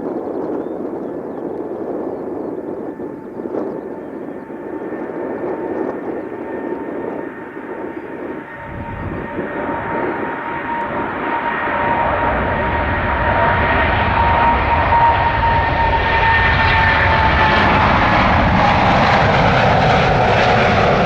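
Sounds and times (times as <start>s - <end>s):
deep rumble: 0.0s - 21.0s
jet engine roar with whine: 0.0s - 21.0s.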